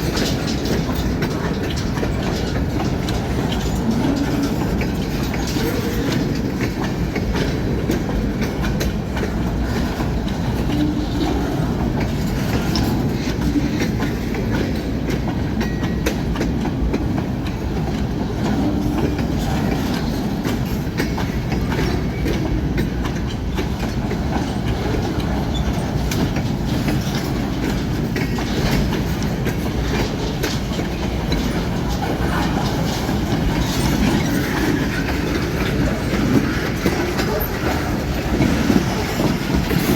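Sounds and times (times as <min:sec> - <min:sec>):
freight train rumble: 0:00.0 - 0:39.9
wheels clacking over rail joints: 0:00.0 - 0:39.9.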